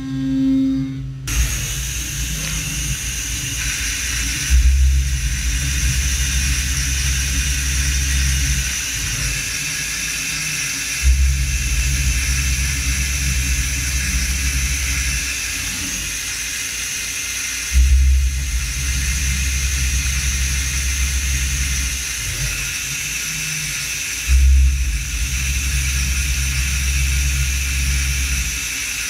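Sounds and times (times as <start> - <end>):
deep rumble: 0.0 - 9.6, 11.0 - 16.3, 17.8 - 22.8, 24.3 - 28.7
high spindle whine: 0.0 - 29.0
coolant spray hiss: 1.3 - 29.0.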